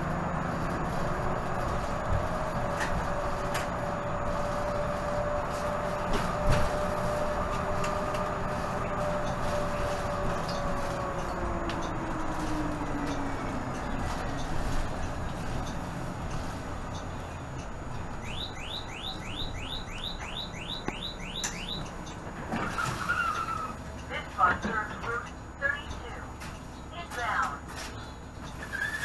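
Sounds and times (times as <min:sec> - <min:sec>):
bus engine and road noise: 0:00.0 - 0:29.0
high drivetrain whine: 0:00.0 - 0:29.0.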